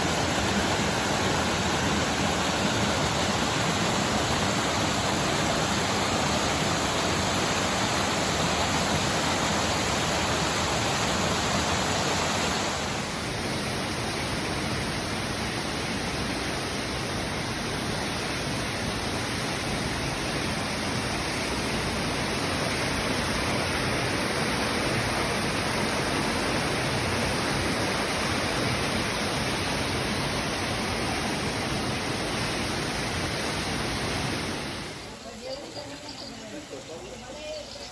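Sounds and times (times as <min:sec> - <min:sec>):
waterfall roaring: 0:00.0 - 0:35.8.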